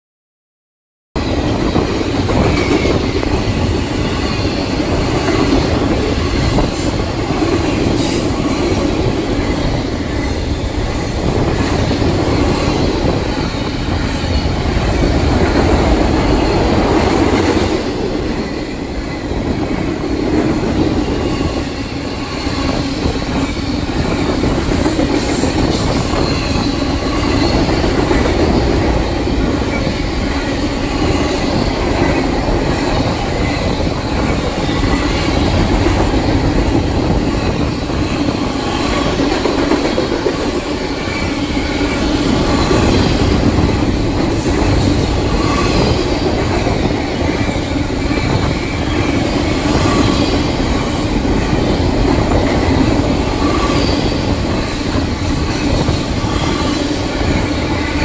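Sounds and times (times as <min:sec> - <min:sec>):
freight train wheels rumbling: 0:01.2 - 0:58.0.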